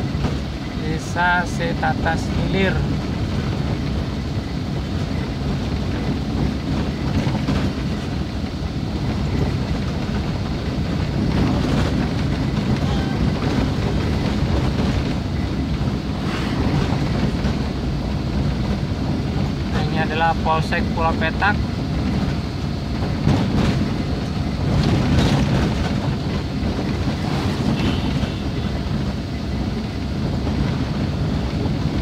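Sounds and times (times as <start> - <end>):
car engine and tyre drone: 2.8 - 32.0.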